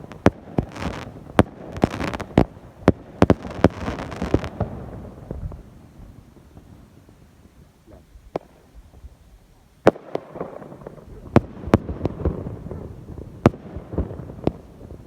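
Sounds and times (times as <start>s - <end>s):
fireworks bangs: 0.0s - 9.0s, 9.8s - 15.0s
fireworks crackling: 0.0s - 15.0s.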